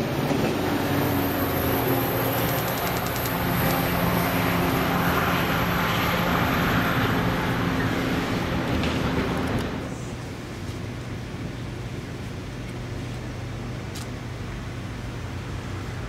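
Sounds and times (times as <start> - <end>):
diesel locomotive engine drone: 0.0 - 16.0
wheels rushing on rail: 0.0 - 16.0.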